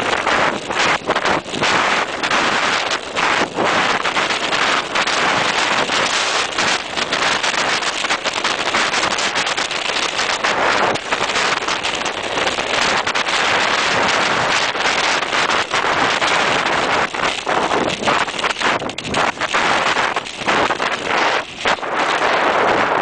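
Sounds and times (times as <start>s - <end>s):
bike knocking and rattling: 0.0s - 22.5s
bike tyres crunching on gravel: 0.0s - 23.0s
wind buffeting microphone: 0.0s - 23.0s.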